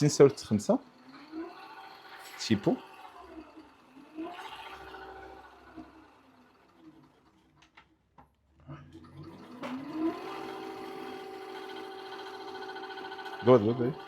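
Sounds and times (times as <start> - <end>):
scooter hub motor whining: 0.0 - 7.9, 8.8 - 14.0.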